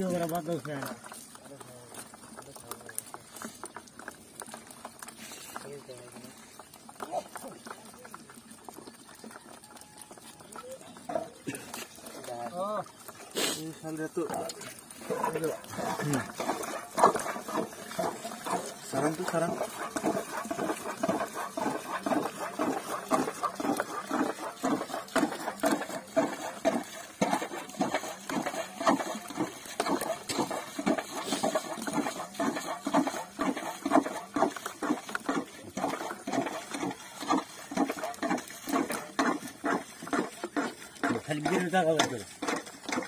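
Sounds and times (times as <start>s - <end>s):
fish flapping and slapping: 0.0s - 43.0s.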